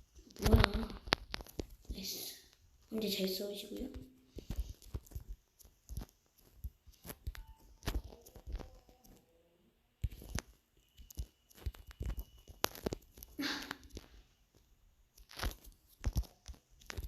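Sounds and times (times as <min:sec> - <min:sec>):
rustling and scraping: 0:00.0 - 0:09.3, 0:10.0 - 0:17.0.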